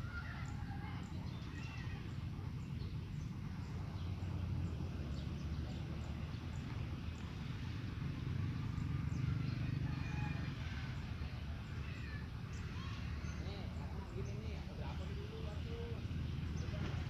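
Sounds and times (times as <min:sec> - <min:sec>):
continuous low rumble: 0:00.0 - 0:17.0
small birds chirping: 0:00.0 - 0:17.0.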